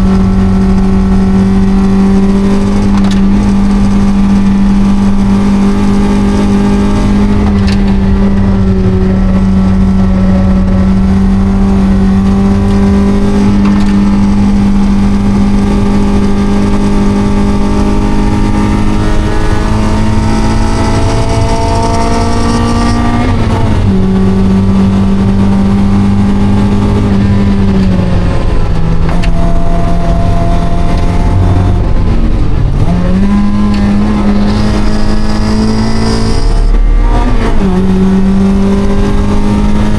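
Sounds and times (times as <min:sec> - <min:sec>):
car engine at high revs: 0:00.0 - 0:39.9.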